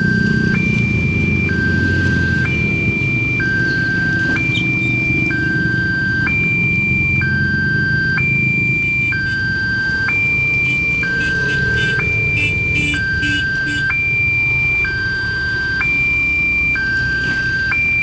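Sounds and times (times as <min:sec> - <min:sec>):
level crossing alarm two-tone: 0:00.0 - 0:18.0.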